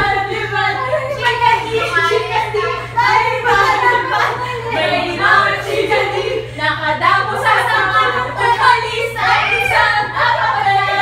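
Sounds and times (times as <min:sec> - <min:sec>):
group singing: 0:00.0 - 0:11.0
steady low hum: 0:00.0 - 0:11.0.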